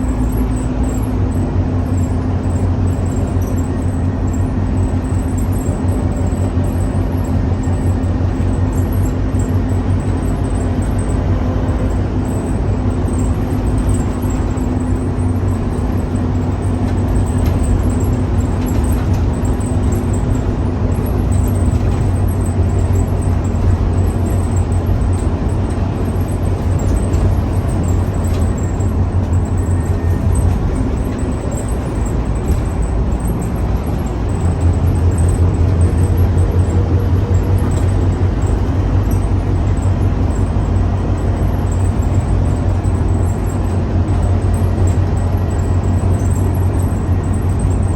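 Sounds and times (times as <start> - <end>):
bus engine drone: 0.0 - 47.9.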